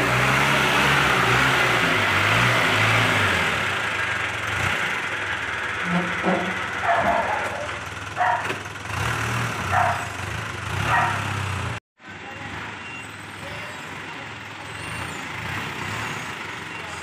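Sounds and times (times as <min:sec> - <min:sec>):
lorry engine running: 0:00.0 - 0:17.0.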